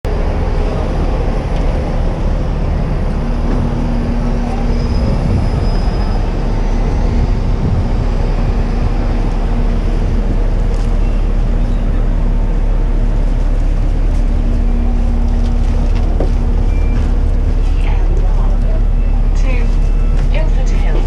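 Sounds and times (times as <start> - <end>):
moving vehicle rumble: 0.0 - 21.0.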